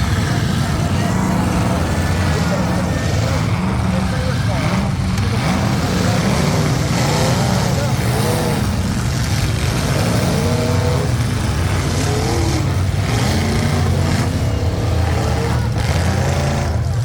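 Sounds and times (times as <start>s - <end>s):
car engines running loudly: 0.0s - 17.0s
engines revving: 0.0s - 17.0s.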